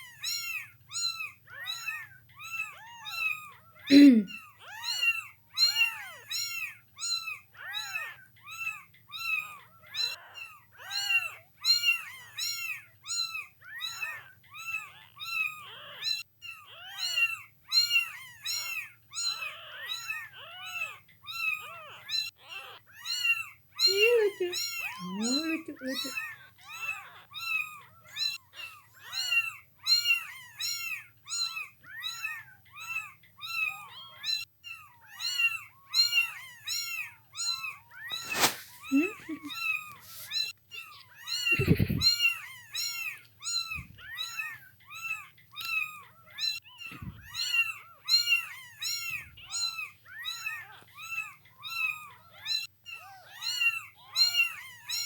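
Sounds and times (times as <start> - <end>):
kittens meowing: 0.0 - 55.0.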